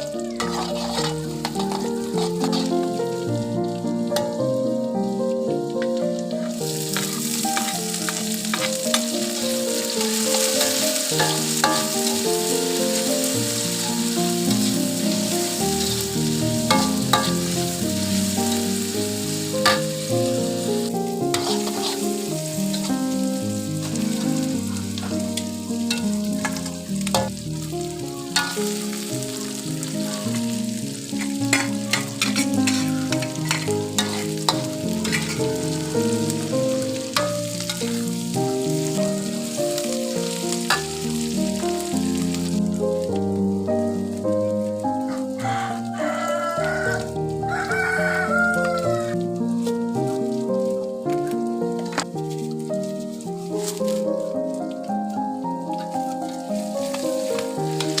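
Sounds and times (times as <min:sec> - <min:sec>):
food sizzling in a pan: 0:00.0 - 0:58.0
instrumental background music: 0:00.0 - 0:58.0.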